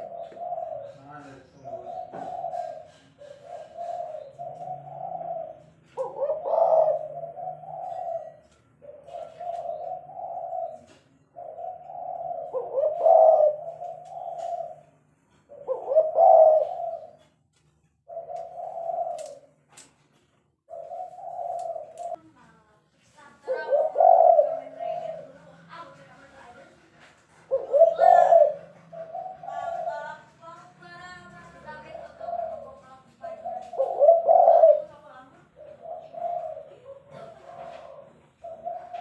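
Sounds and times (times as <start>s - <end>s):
dove cooing: 0.0s - 17.4s, 18.0s - 19.8s, 20.7s - 22.3s, 23.4s - 39.0s.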